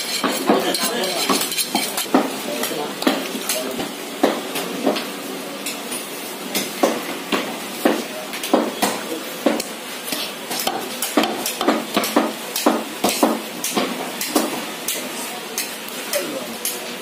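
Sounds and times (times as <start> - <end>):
blades chopping meat and bone: 0.0 - 5.1, 6.6 - 16.8.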